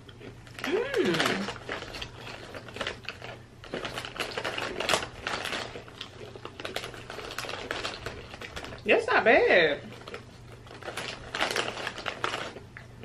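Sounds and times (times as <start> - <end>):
plastic wrapper crinkling: 0.4 - 8.9, 9.8 - 12.8.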